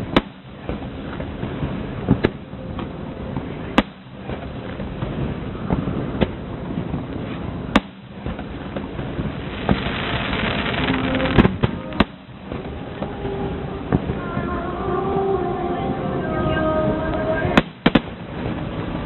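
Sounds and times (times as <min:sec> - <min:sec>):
fireworks bangs: 0:00.0 - 0:19.0
fireworks crackling: 0:00.0 - 0:19.0
low rumble: 0:00.0 - 0:19.0.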